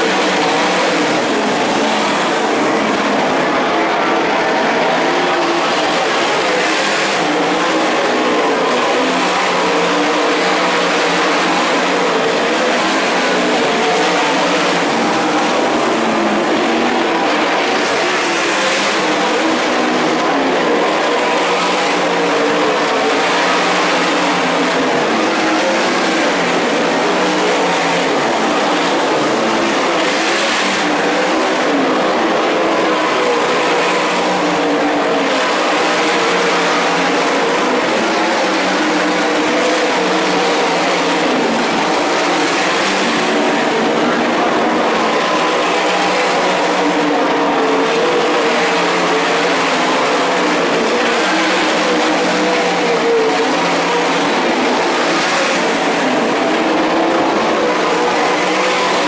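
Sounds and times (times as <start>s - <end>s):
race car engines passing: 0.0s - 59.0s.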